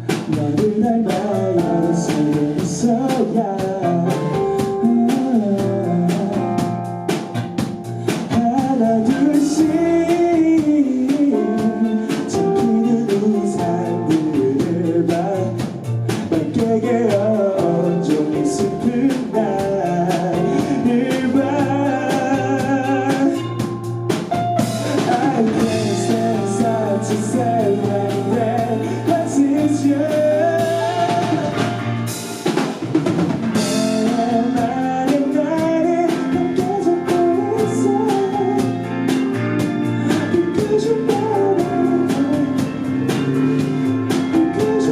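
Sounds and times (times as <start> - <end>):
drum kit beat: 0.0 - 44.9
guitar: 0.0 - 44.9
melodic lead line: 0.0 - 44.9.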